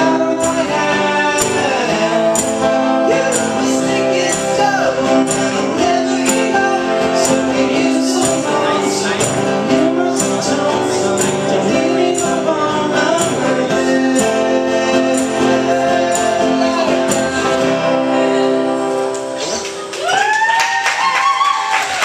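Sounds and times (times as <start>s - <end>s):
person singing: 0.0s - 19.6s
acoustic guitars strummed: 0.0s - 19.9s.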